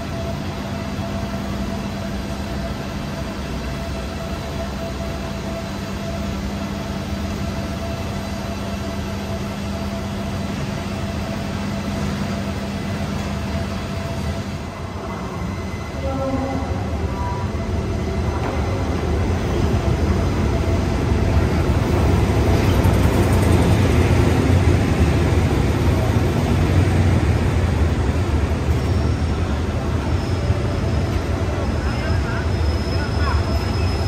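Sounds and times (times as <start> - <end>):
diesel train engine rumbling: 0.0 - 34.0.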